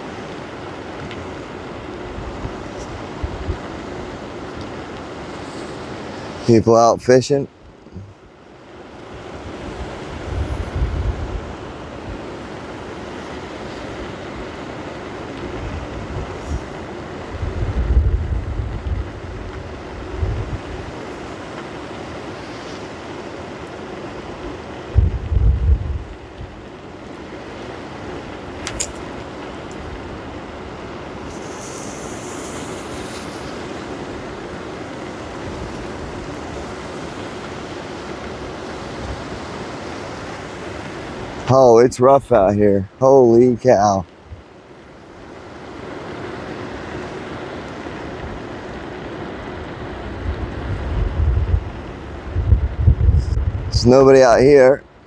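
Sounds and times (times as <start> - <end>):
wind buffeting microphone: 0.0 - 6.6, 9.0 - 43.0, 44.2 - 54.8
choppy waves: 0.0 - 55.0
rough surf: 0.0 - 55.0
strong wind: 0.0 - 55.0.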